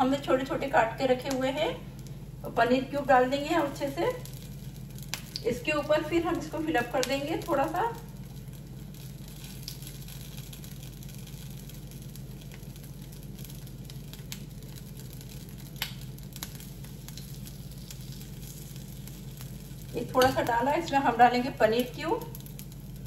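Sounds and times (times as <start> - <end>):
batter sizzling in a pan: 0.0 - 23.0
low hum: 0.0 - 23.0.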